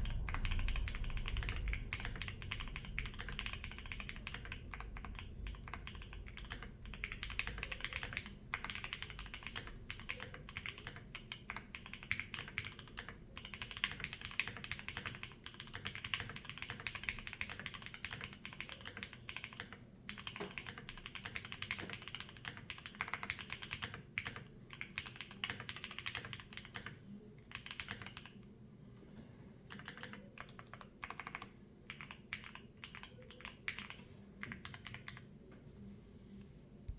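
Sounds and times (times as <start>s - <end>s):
mechanical keyboard typing: 0.0s - 28.4s, 29.7s - 35.3s.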